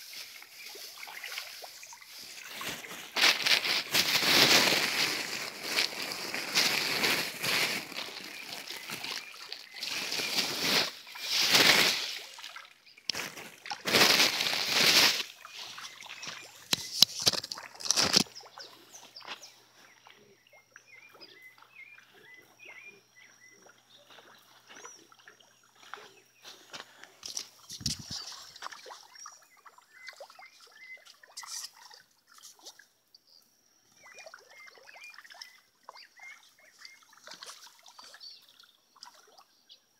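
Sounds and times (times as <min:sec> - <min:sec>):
faint bird chirps: 0:00.0 - 0:11.6, 0:14.0 - 0:39.9
water splashing and sloshing: 0:00.0 - 0:22.6, 0:23.5 - 0:32.9, 0:34.1 - 0:39.4.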